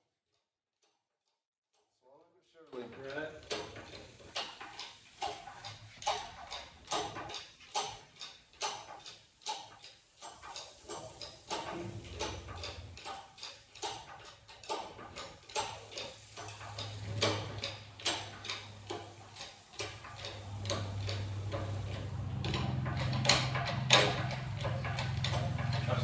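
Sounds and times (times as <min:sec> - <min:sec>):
sharp metallic clicks of hoist chain: 0:02.8 - 0:26.0.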